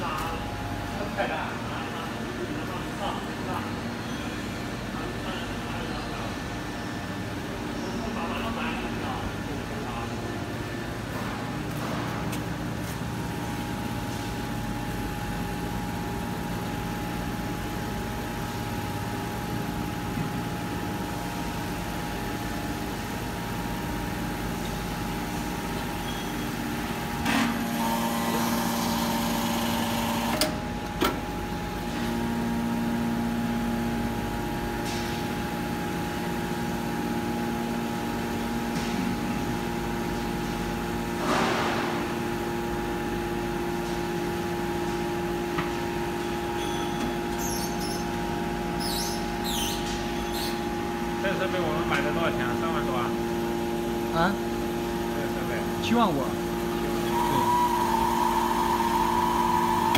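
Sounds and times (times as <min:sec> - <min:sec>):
hydraulic power unit humming: 0:00.0 - 0:59.9.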